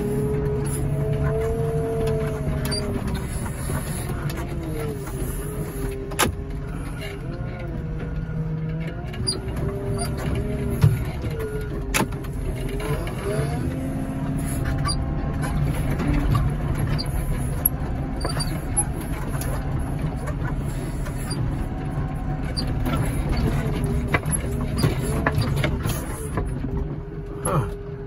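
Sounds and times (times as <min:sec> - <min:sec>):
heavy machine engine running: 0:00.0 - 0:28.0
machinery squeaking and creaking: 0:00.0 - 0:28.0.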